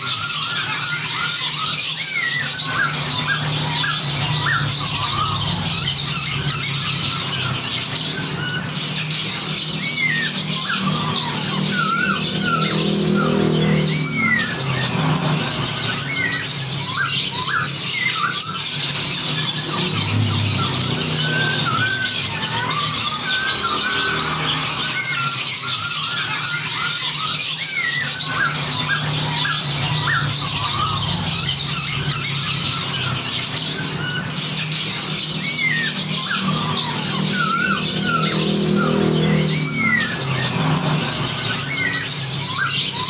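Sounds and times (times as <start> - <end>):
songbirds chattering and whistling: 0.0 - 43.0.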